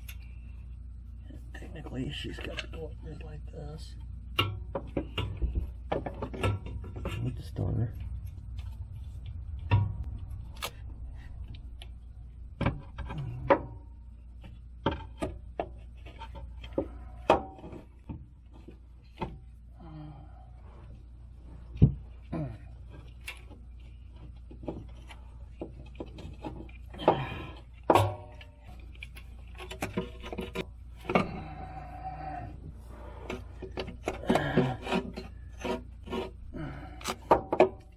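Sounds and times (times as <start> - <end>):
low steady hum: 0.0 - 37.9.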